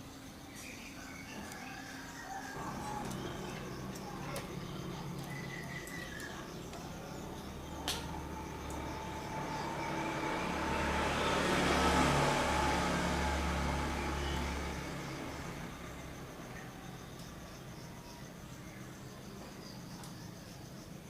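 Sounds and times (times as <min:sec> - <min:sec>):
low steady hum: 0:00.8 - 0:19.4
vehicle passing by: 0:01.4 - 0:19.0.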